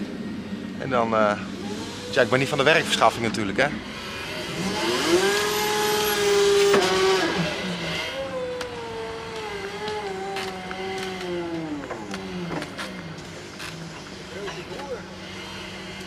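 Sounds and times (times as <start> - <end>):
forklift motor whining: 1.4 - 16.0.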